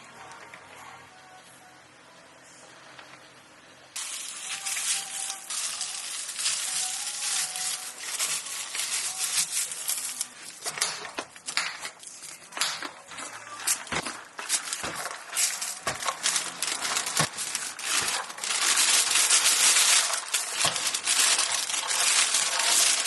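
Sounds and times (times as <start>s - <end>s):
crunching and crackling: 4.0s - 23.0s.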